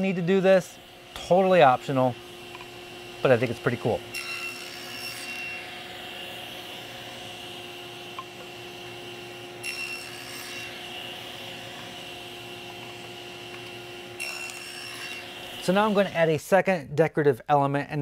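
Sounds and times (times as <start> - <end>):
saw blade cutting wood: 0.0 - 16.4
table saw running: 0.0 - 16.4.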